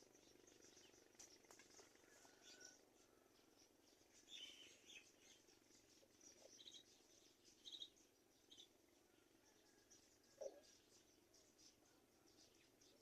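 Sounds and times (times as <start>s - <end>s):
faint background hiss: 0.0s - 13.0s
faint bird chirps: 0.0s - 13.0s.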